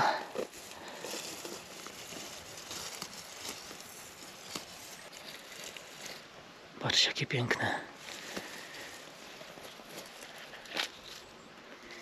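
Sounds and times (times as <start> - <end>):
rustling of moss and forest litter: 0.0 - 12.0.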